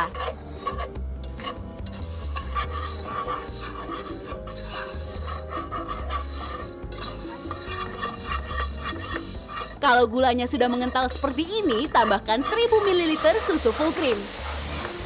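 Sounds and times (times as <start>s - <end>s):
whisk scraping in a pot: 0.0s - 15.0s.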